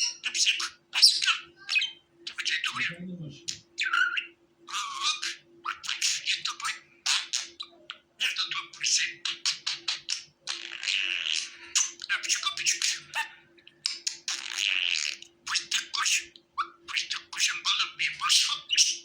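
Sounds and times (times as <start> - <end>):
budgerigar warbling and chattering: 0.0 - 19.0.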